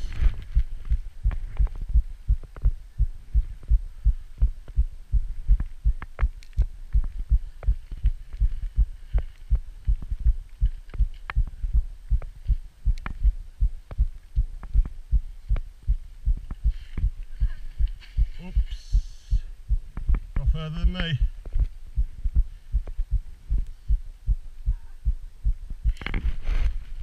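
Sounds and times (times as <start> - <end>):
rhythmic low thumping: 0.0 - 27.0.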